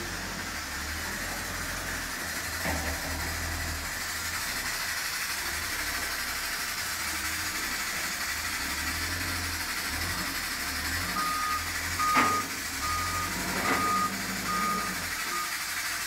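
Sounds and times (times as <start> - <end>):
forklift engine rumble: 0.0 - 16.0.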